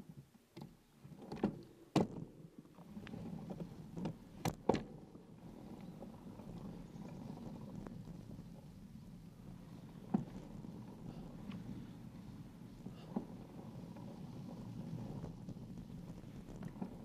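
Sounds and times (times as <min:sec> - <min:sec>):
bicycle tyres rolling on dirt: 0:00.9 - 0:17.0
bike knocking and rattling: 0:01.2 - 0:17.0.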